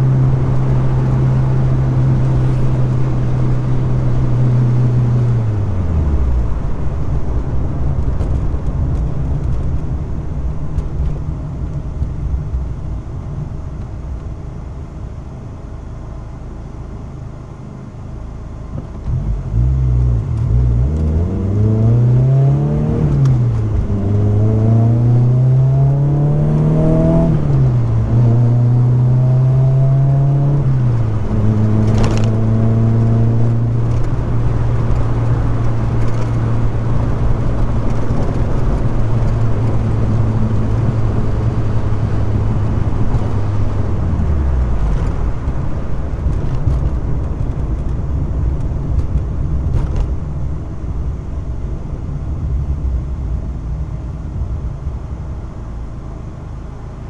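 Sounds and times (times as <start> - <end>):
car engine: 0.0 - 57.0.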